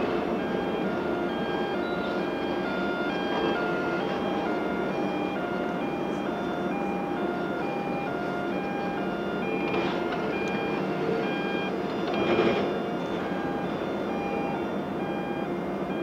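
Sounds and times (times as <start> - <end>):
two-tone warning beep: 0.0 - 16.0.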